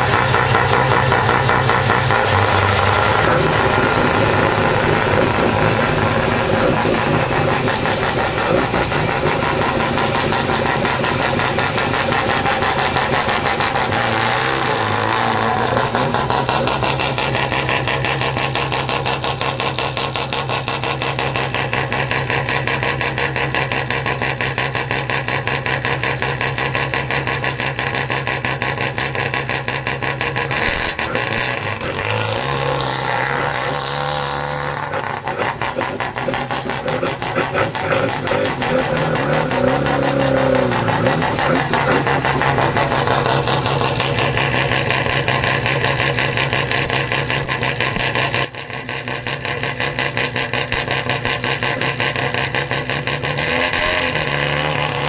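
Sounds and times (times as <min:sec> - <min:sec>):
rotary engine choppy idle: 0:00.0 - 0:55.0.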